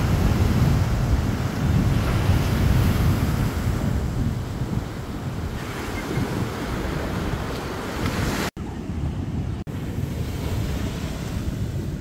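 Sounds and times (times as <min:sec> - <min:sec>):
ocean surf washing on beach: 0:00.0 - 0:12.0
wind rumbling on microphone: 0:00.0 - 0:12.0.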